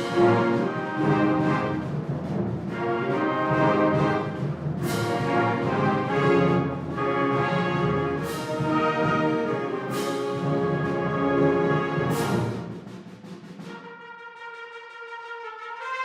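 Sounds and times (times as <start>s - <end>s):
brass chords: 0.0s - 16.0s.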